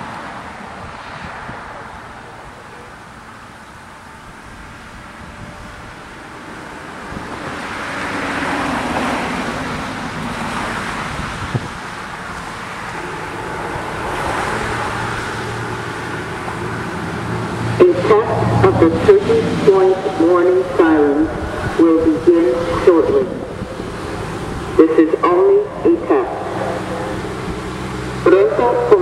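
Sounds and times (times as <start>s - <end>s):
cars passing: 0.0s - 29.0s.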